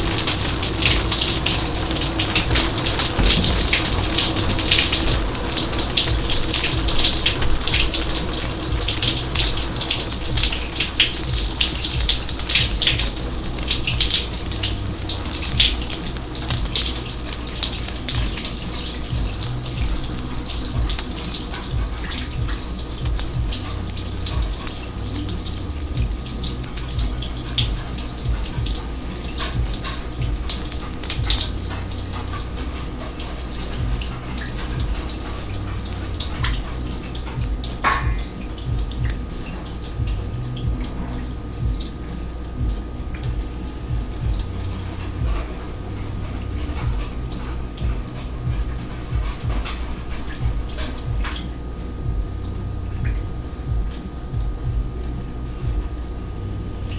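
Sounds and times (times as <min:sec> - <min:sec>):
water splashing in a sink: 0:00.0 - 0:56.9.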